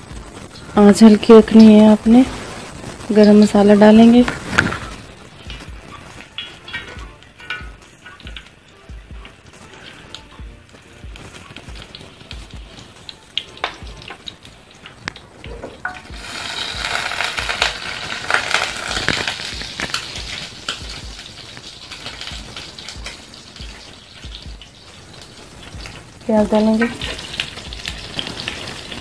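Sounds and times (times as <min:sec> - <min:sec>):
spices sizzling in hot oil: 0:00.0 - 0:29.0.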